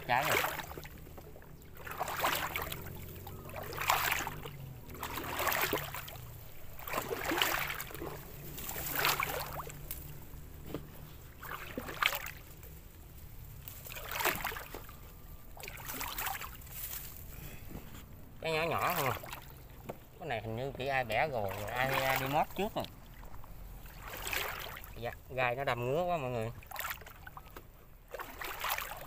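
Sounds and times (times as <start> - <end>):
splashing footsteps in water: 0.0 - 17.3, 18.4 - 29.0.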